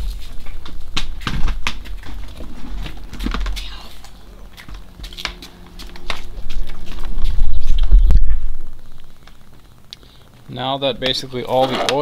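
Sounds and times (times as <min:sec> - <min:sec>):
low steady rumble: 0:00.0 - 0:11.5.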